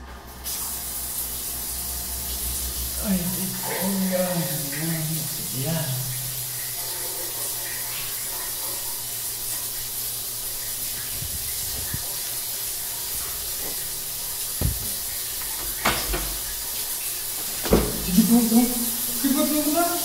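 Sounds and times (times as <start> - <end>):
shower spray hissing on tiles: 0.3 - 20.0.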